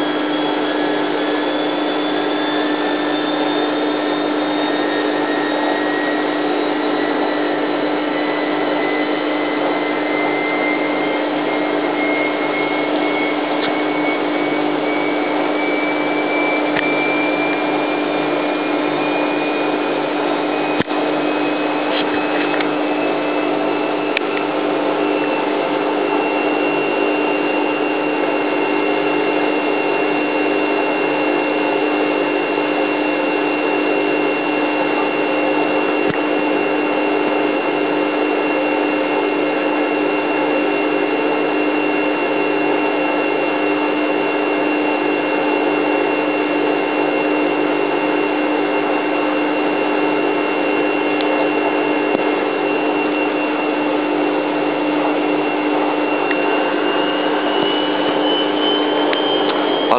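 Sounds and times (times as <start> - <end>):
washing machine spin whine: 0.0 - 59.9.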